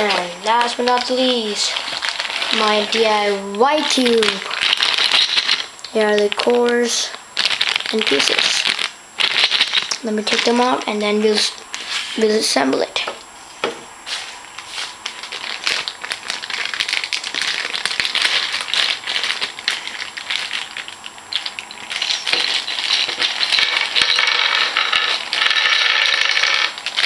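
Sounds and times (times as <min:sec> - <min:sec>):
plastic pieces rattling and clicking: 0:00.0 - 0:06.8, 0:07.4 - 0:10.6, 0:15.2 - 0:27.0.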